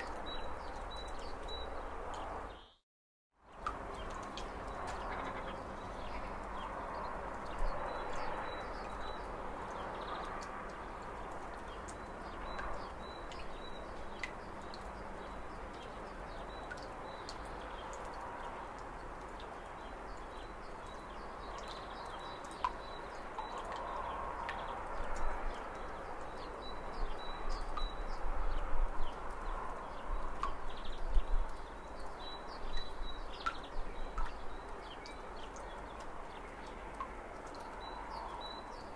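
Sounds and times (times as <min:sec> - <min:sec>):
outdoor background hiss: 0:03.4 - 0:38.9.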